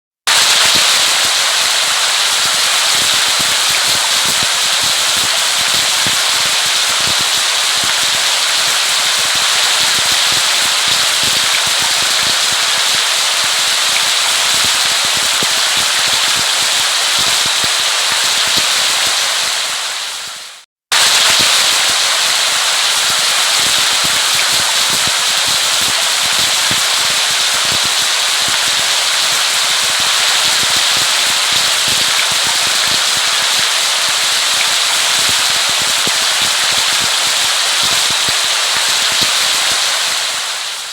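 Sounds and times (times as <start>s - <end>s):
crackling raindrop impacts: 0.3s - 40.9s
steady rain: 0.3s - 40.9s.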